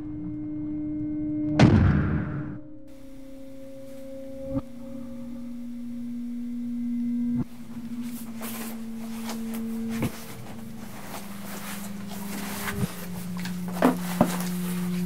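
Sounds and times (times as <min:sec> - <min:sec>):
low held pure tone music: 0:00.0 - 0:15.0.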